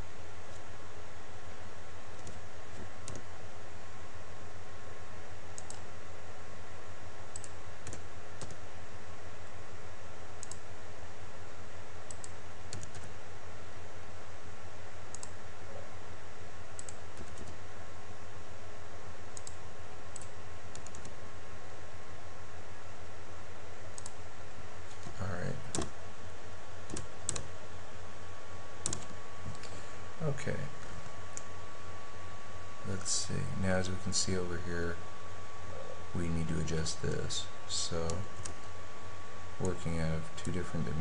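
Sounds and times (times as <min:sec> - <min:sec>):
steady hum and hiss: 0:00.0 - 0:41.0.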